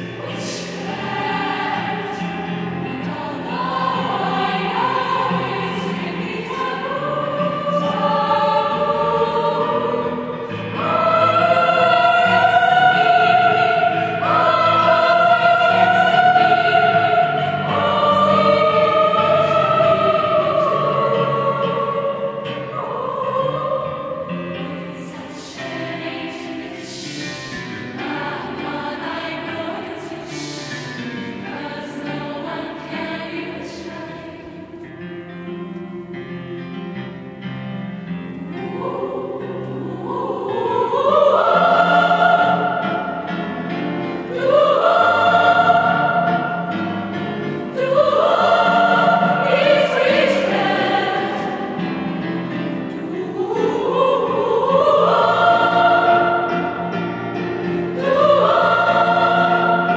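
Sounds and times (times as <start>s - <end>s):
girls' choir singing chords: 0.0s - 59.9s.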